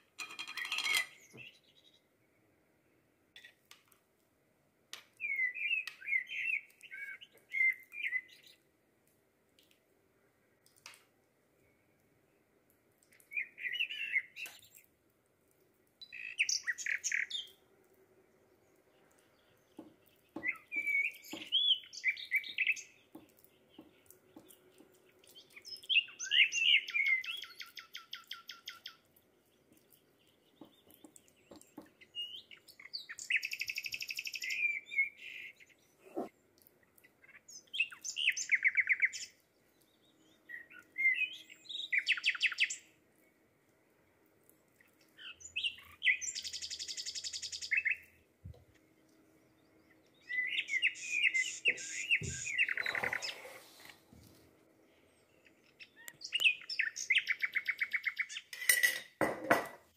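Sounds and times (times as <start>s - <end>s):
songbird singing with rattling trills: 0.0s - 2.4s, 5.0s - 8.6s, 13.1s - 14.9s, 16.0s - 43.0s, 44.7s - 53.9s, 54.9s - 59.8s.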